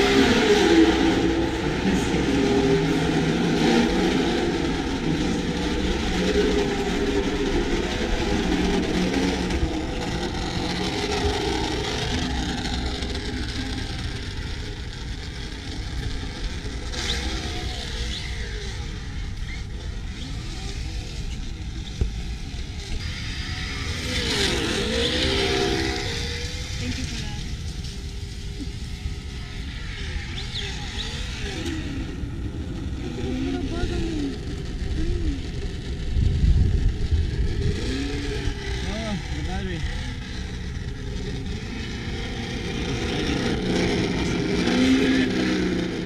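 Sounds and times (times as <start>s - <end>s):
electric motor whining: 0.0s - 46.0s
tyre and ground noise: 0.0s - 46.0s.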